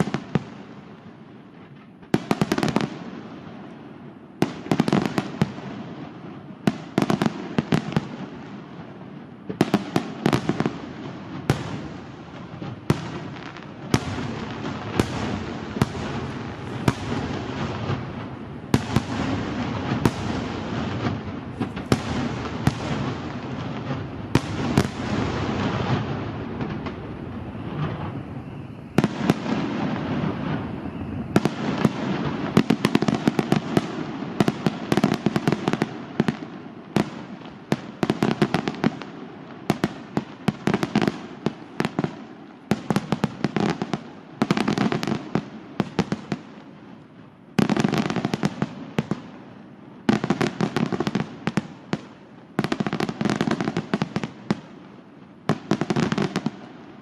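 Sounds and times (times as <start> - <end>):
fireworks cracking and popping: 0.0 - 57.0
low rumble of fireworks: 0.0 - 57.0.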